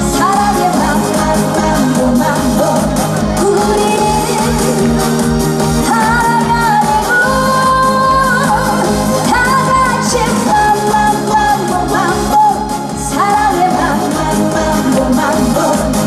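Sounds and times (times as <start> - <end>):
amplified backing track with beat: 0.0 - 16.0
woman singing: 0.0 - 16.0.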